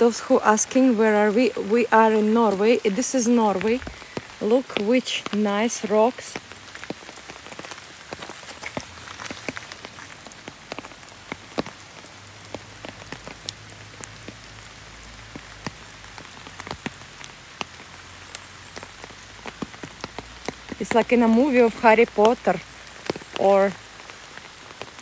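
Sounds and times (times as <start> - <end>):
raindrops ticking close by: 0.0 - 25.0
steady rain hiss: 0.0 - 25.0.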